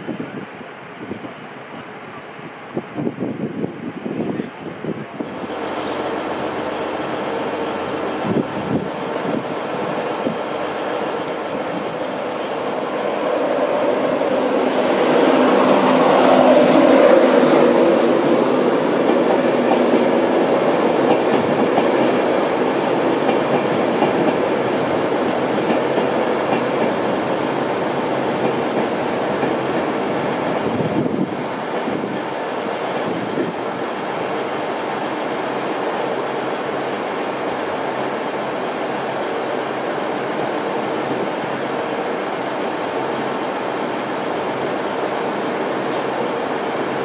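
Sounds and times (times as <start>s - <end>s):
train wheels rumbling on rails: 5.0s - 47.0s.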